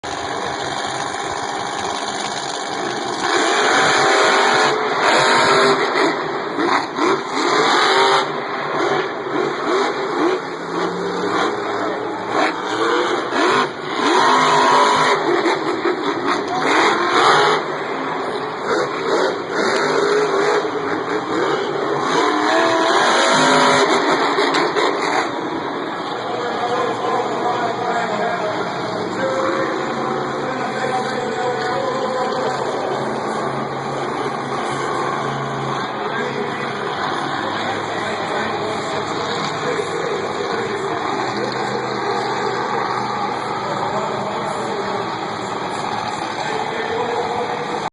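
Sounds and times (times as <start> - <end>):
monster truck engines revving: 0.0 - 47.9.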